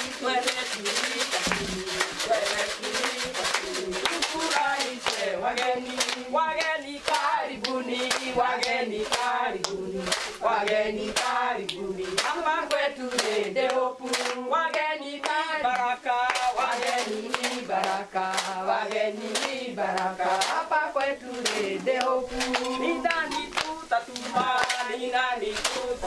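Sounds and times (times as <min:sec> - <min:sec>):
rhythmic hand clapping: 0:00.0 - 0:26.0
women singing together: 0:00.0 - 0:26.0.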